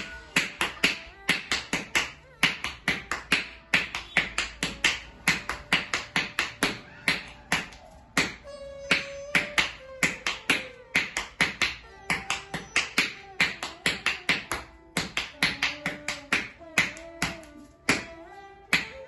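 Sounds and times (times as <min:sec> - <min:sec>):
bare feet stamping on tiled floor: 0:00.0 - 0:19.0.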